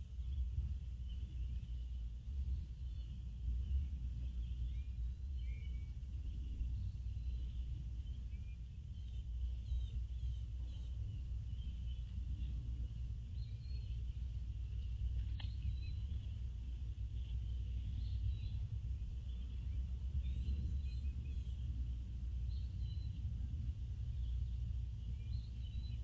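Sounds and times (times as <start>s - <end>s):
faint bird chirps: 0.0s - 26.0s
wind rumble on microphone: 0.0s - 26.0s.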